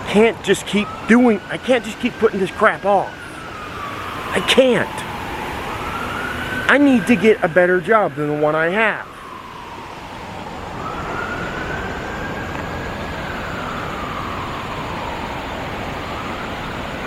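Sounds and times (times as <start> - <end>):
distant siren wailing: 0.0 - 17.0.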